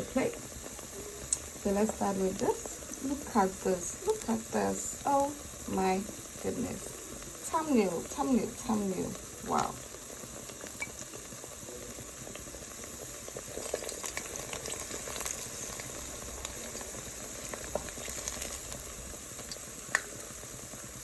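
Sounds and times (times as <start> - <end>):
plantain frying in hot oil: 0.0 - 21.0.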